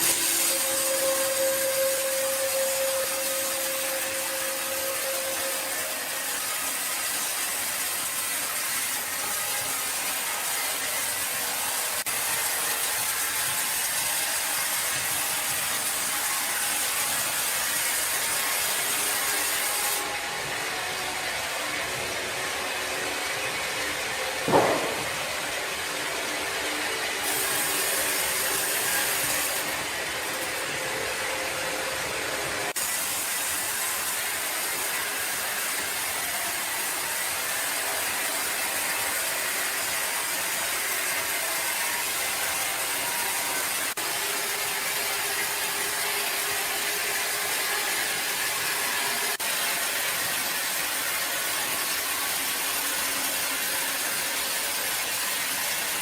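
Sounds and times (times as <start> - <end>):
woodworking machinery: 0.0 - 56.0.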